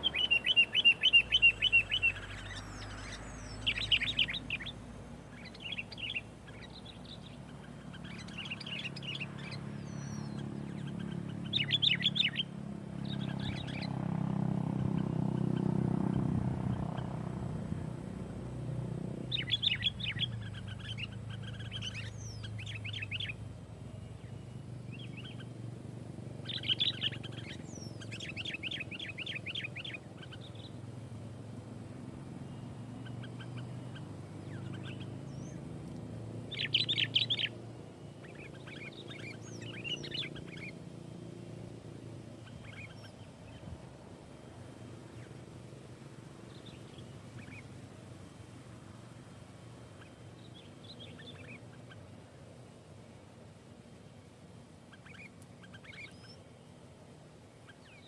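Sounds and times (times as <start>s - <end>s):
bird chirping: 0.0s - 25.7s, 26.3s - 31.3s, 32.4s - 45.6s, 46.4s - 48.5s, 49.8s - 52.1s, 54.9s - 56.9s, 57.6s - 58.0s
low hum: 0.0s - 58.0s.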